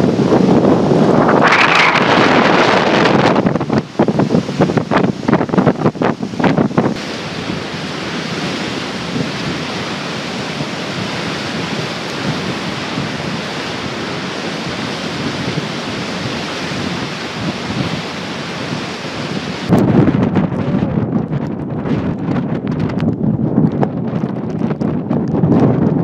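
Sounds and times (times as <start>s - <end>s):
strong wind through trees: 0.0s - 26.0s.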